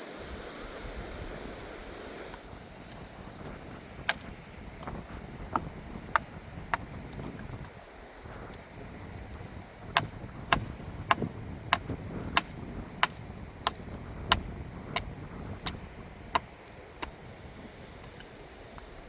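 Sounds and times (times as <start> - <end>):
steady low rumble: 0.9 - 19.0.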